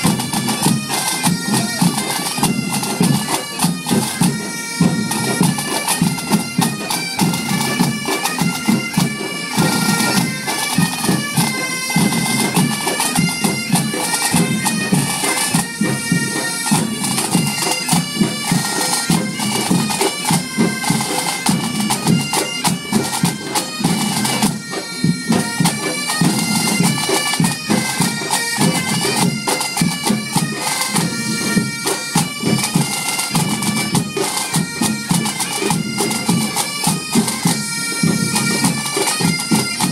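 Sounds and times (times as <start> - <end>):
bagpipes playing melody: 0.0 - 39.9
drums beating: 0.0 - 39.9.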